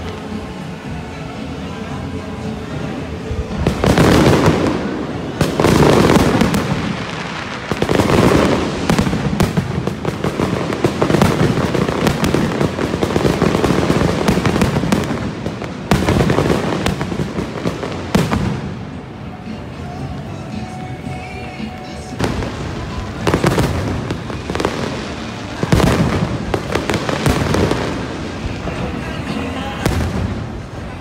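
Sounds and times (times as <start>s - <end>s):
firework crackle: 3.0s - 20.3s, 21.0s - 31.0s.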